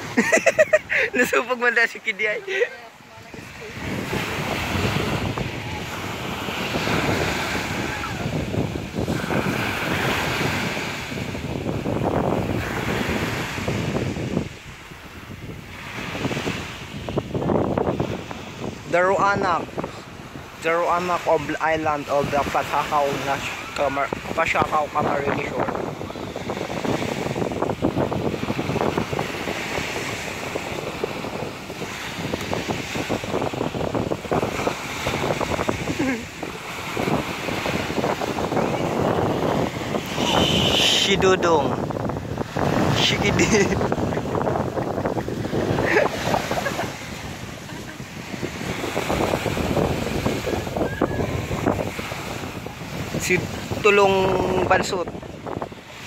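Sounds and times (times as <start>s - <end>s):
sea waves breaking: 0.0s - 56.0s
wind buffeting microphone: 0.0s - 56.0s.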